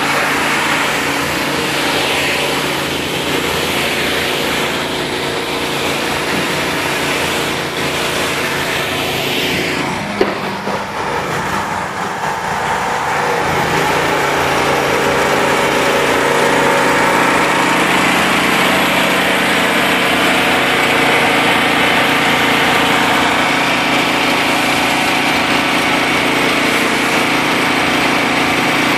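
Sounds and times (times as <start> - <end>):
gas engine droning: 0.0 - 28.9.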